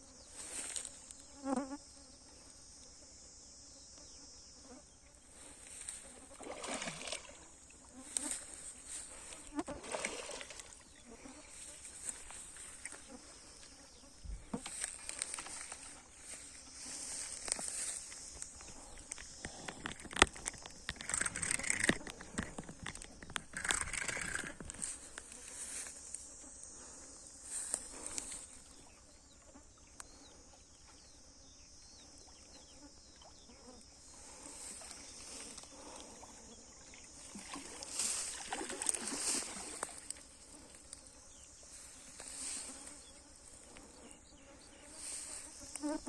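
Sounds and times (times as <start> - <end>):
insects chirping: 0.0 - 46.0.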